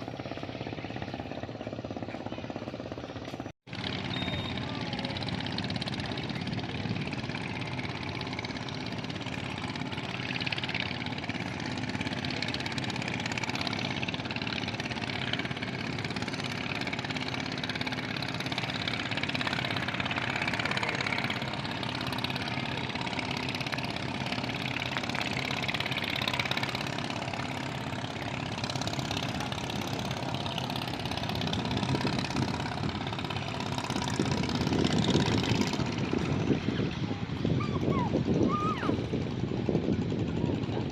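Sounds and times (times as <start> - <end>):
speedboat engine running: 0.0 - 40.9.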